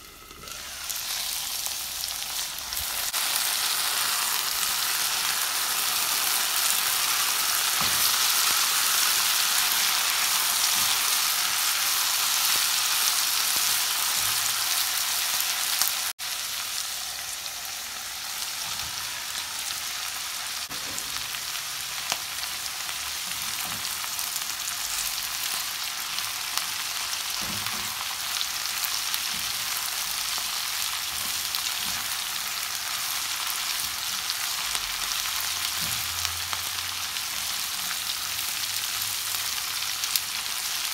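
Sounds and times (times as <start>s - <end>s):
green beans sizzling in oil: 0.0s - 40.9s.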